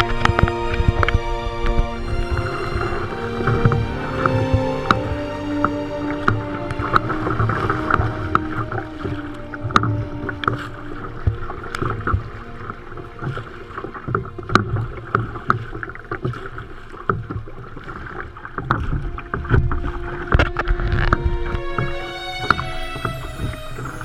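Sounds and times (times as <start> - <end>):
water and wind rumble: 0.0 - 24.0.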